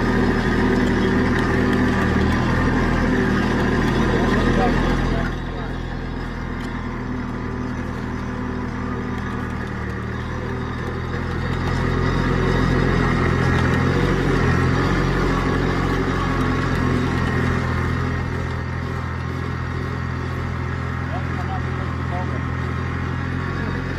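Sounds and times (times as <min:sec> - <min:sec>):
vehicle engine running: 0:00.0 - 0:23.9.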